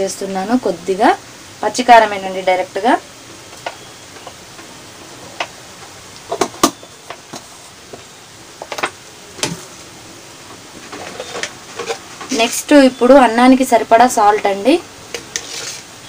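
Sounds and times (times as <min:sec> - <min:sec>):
pan hissing on stove: 0:00.2 - 0:16.0.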